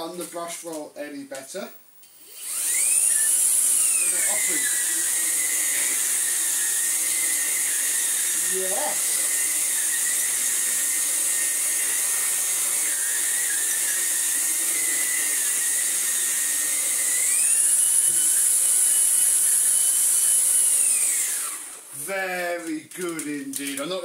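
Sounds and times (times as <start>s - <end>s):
vacuum cleaner motor whine: 2.1s - 24.0s.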